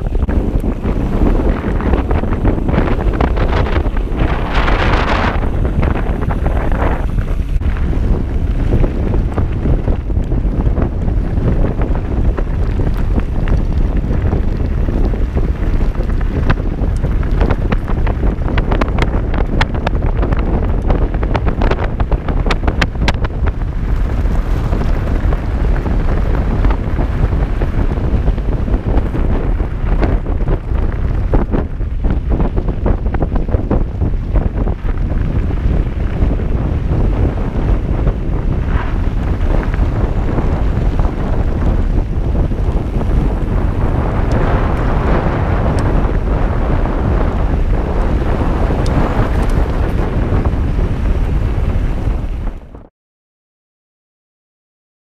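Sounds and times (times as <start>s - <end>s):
bike clicks and rattles: 0.0s - 52.4s
wind buffeting microphone: 0.0s - 52.9s.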